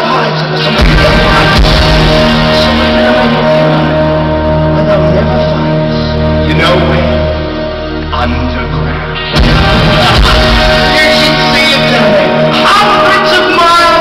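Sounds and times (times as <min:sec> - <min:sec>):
live rock band with orchestra: 0:00.0 - 0:14.0
heavy bass: 0:00.5 - 0:14.0.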